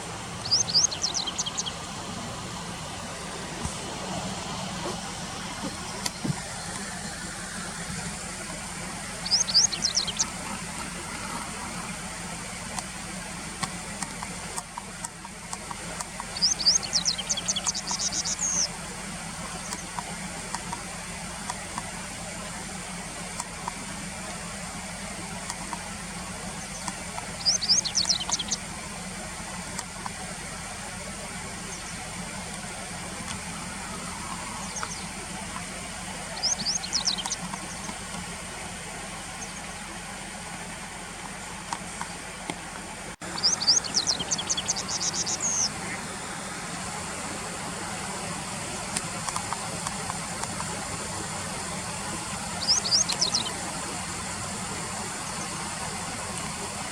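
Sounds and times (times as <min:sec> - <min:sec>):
steady low hum: 0:00.0 - 0:56.9
wagtail calling: 0:00.0 - 0:56.9.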